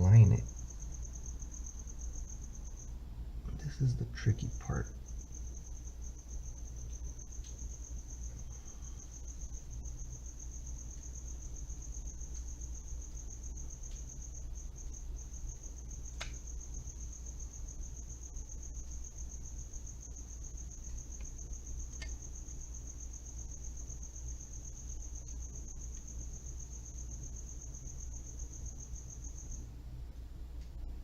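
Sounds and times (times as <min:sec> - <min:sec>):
cricket trilling: 0:00.0 - 0:29.7.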